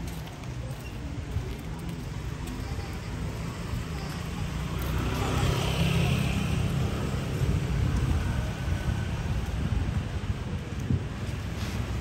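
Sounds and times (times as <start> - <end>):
road traffic: 0.0 - 12.0
vehicle engine and tyres: 0.0 - 12.0.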